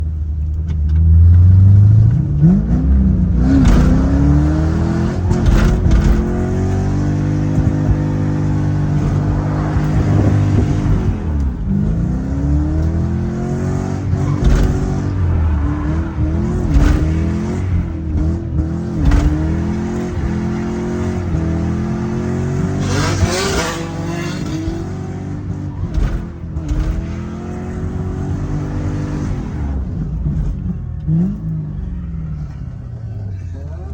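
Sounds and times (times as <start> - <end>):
car engine revving hard: 1.5 - 31.4.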